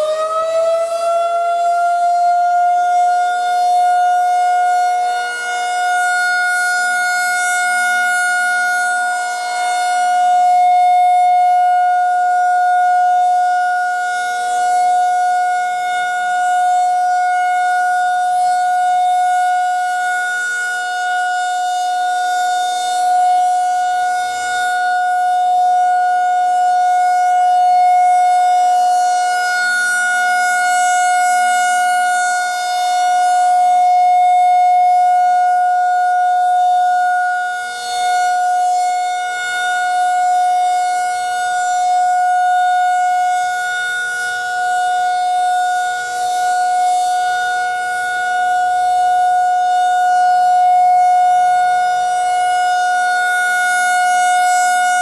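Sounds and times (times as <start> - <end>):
tornado siren steady tone: 0.0 - 55.0.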